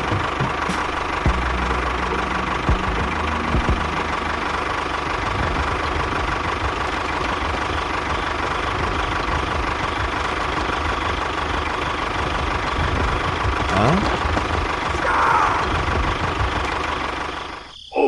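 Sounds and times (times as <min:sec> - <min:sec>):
small motor whining and chugging: 0:00.0 - 0:17.6.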